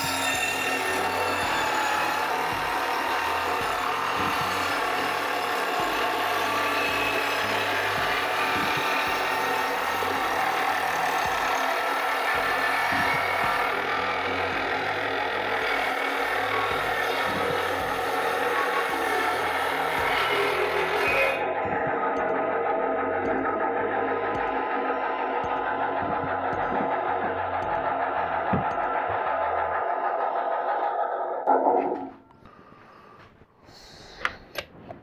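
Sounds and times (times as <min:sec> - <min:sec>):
table saw cutting wood: 0:00.0 - 0:32.2.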